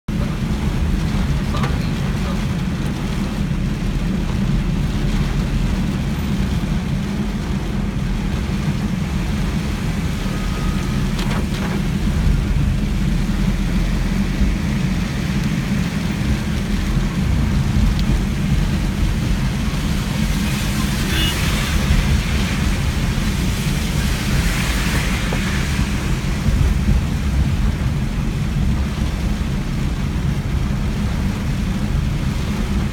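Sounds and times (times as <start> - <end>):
car running noise: 0.1 - 32.9
heavy rain drumming on car roof: 0.1 - 32.9.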